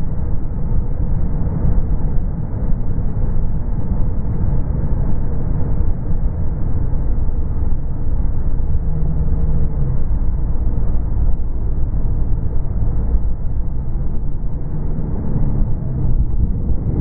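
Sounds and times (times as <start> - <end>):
motorcycle engine drone: 0.0 - 17.0
wind rush on microphone: 0.0 - 17.0.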